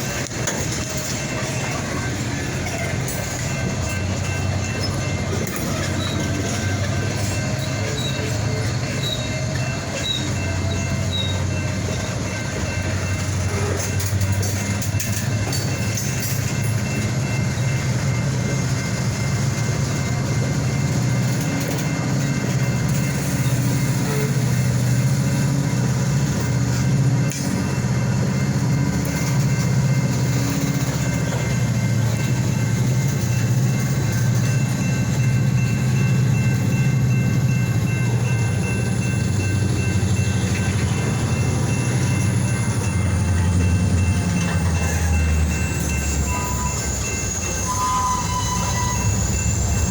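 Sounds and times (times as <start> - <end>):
diesel locomotives rumbling: 0.0 - 49.9.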